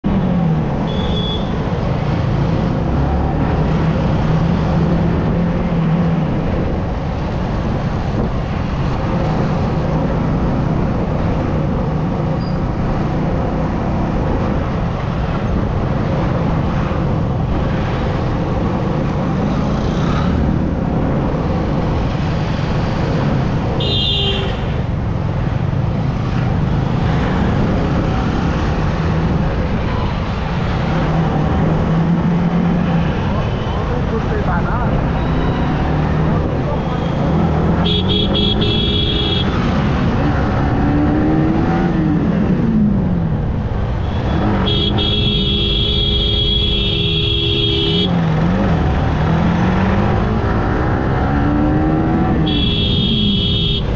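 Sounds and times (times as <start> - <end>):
wind and road noise: 0.0 - 53.9.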